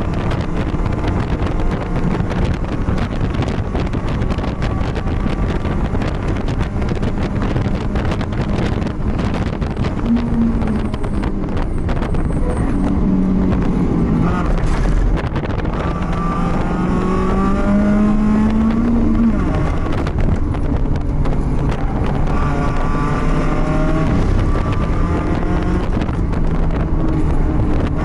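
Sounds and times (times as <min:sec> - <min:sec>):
race car engine running hard: 0:00.0 - 0:28.0
wind buffeting microphone: 0:00.0 - 0:28.0.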